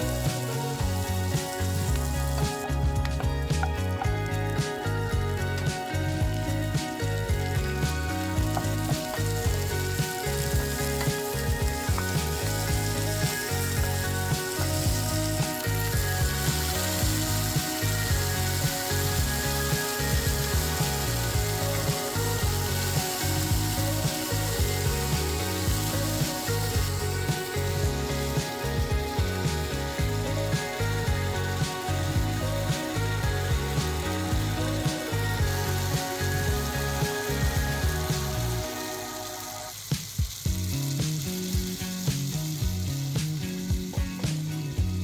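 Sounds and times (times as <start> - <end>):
fish deep-frying in oil: 0.0 - 45.0
upbeat background music: 0.0 - 45.0.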